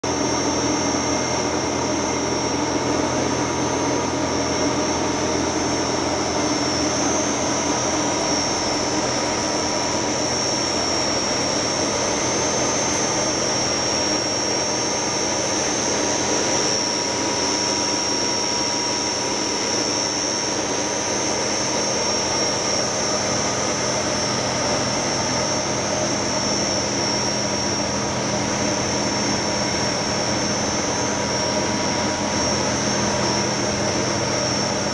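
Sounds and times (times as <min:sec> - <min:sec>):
machine running with high whine: 0:00.0 - 0:34.9.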